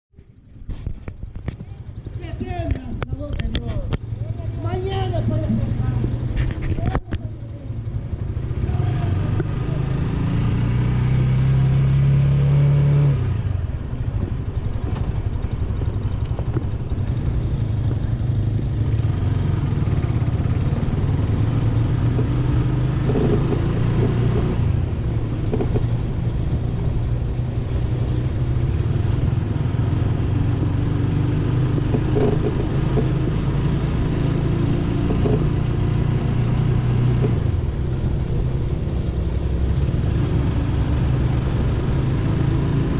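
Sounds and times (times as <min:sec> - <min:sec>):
motorcycle engine running: 0:00.2 - 0:42.9.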